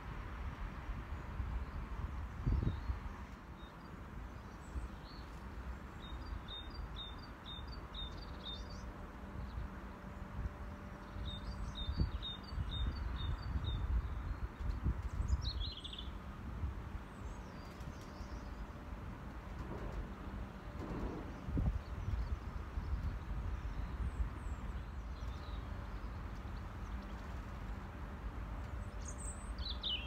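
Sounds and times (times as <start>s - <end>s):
songbird singing: 1.1s - 16.2s, 17.0s - 18.9s, 20.6s - 30.0s.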